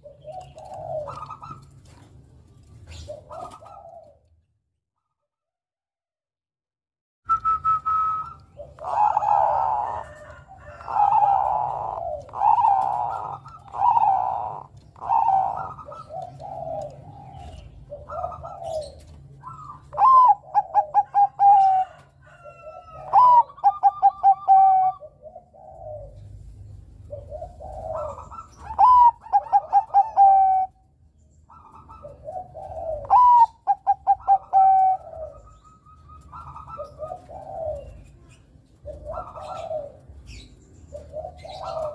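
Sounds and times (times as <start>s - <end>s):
dove cooing: 0.0s - 4.4s, 7.6s - 30.9s, 31.5s - 41.9s.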